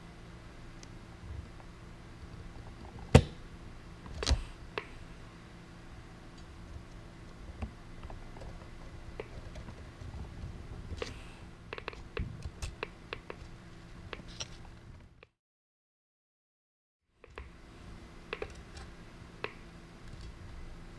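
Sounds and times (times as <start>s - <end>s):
faint steady hum: 0.0s - 15.4s, 17.1s - 20.9s.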